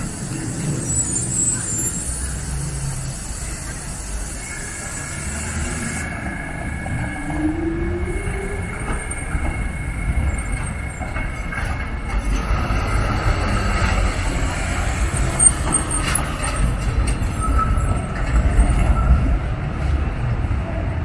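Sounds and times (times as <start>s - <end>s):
faint wheel squeal: 0.0s - 12.6s, 14.2s - 19.4s
tram rumbling on rails: 0.0s - 21.0s.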